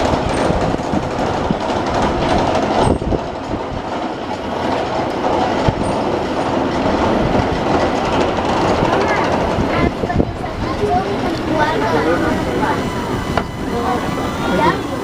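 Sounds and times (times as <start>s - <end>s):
mechanical rumble and rattle: 0.0s - 15.0s.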